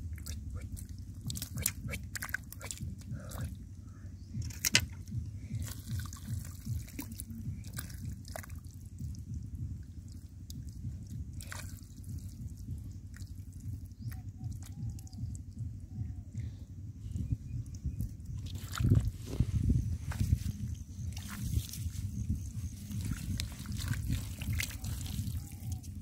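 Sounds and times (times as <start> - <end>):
small water splashes: 0.0 - 3.6, 4.6 - 15.4, 18.3 - 19.2, 20.1 - 26.0
water dripping and sloshing: 0.0 - 3.6, 4.4 - 15.8, 17.6 - 26.0.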